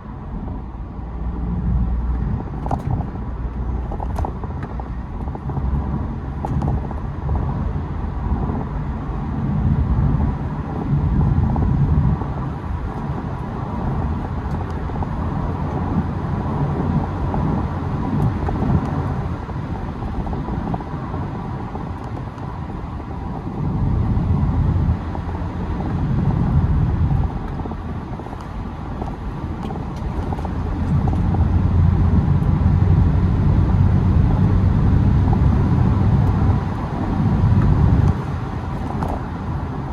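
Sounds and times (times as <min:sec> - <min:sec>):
turbodiesel engine revving: 0:00.0 - 0:39.9.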